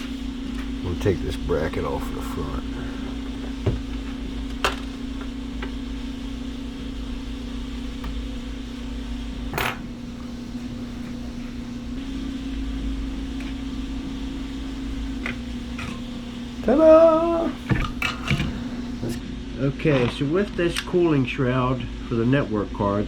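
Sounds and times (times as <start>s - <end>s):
steady low hum: 0.0s - 19.4s.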